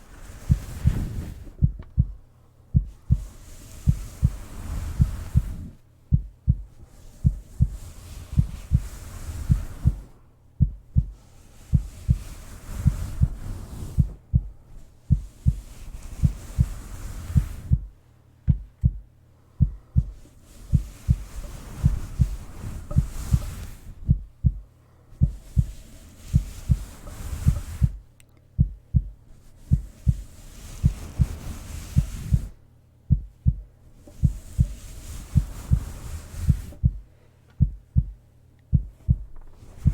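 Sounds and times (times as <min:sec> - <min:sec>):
soft rushing hiss: 0:00.0 - 0:39.9
heartbeat low double thumps: 0:00.4 - 0:26.9, 0:27.5 - 0:31.4, 0:32.0 - 0:39.9.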